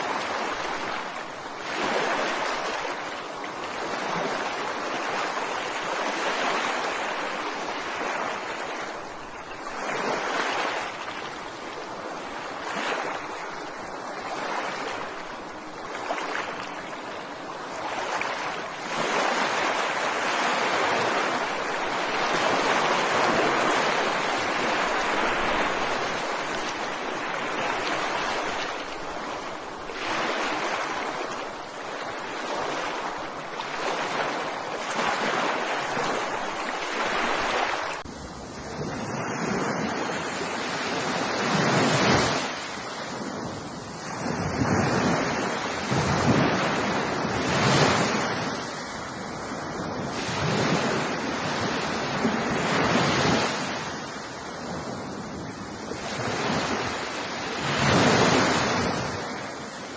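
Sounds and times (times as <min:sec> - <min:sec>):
ocean surf breaking on shore: 0:00.0 - 0:59.9.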